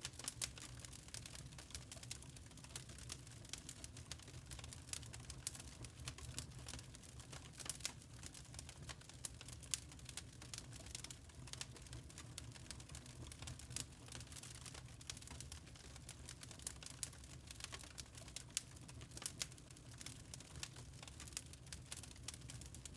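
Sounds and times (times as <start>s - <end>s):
charcoal crackling and popping: 0.0s - 22.9s
low rumble of fire: 0.0s - 22.9s.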